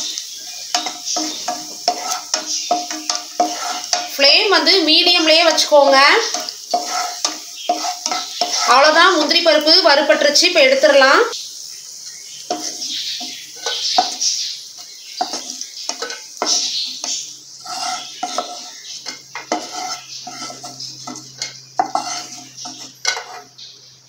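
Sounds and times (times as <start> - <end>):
spatula scraping frying pan: 0.0 - 11.2, 12.4 - 23.8
hot oil sizzling: 0.0 - 24.0.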